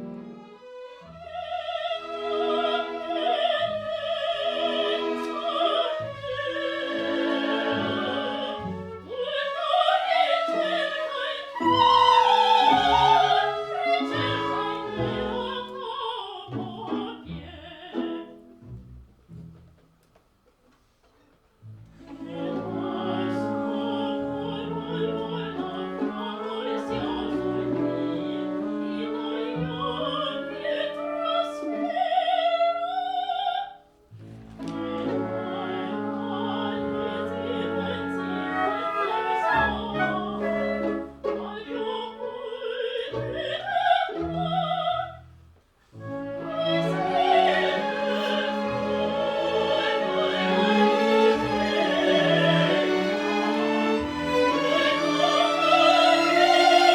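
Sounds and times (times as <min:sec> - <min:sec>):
orchestral strings: 0:00.0 - 0:20.2, 0:21.6 - 0:56.9
operatic singing: 0:01.0 - 0:18.5, 0:22.0 - 0:33.8, 0:34.6 - 0:45.3, 0:46.0 - 0:56.9.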